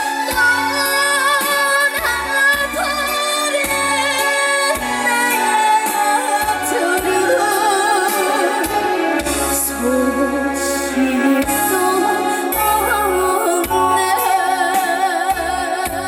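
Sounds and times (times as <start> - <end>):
instrumental accompaniment: 0.0 - 16.0
woman singing ballad: 0.0 - 16.0.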